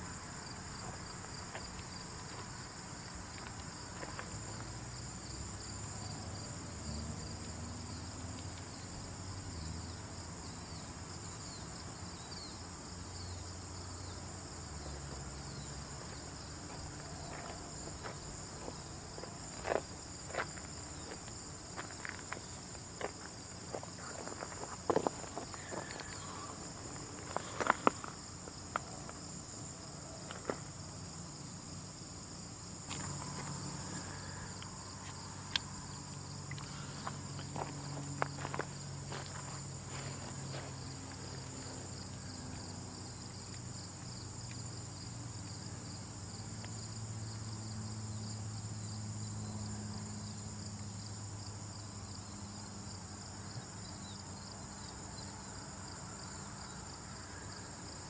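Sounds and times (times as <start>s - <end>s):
chirring insects: 0.0s - 58.0s.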